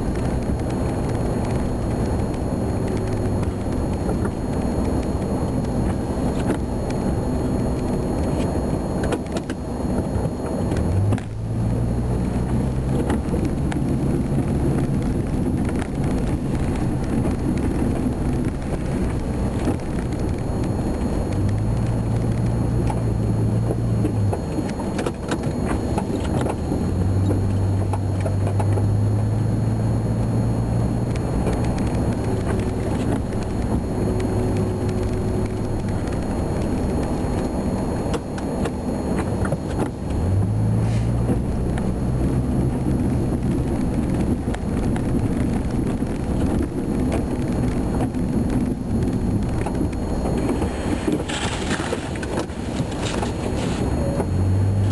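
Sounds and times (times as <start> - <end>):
truck engine plowing snow: 0.0 - 54.9.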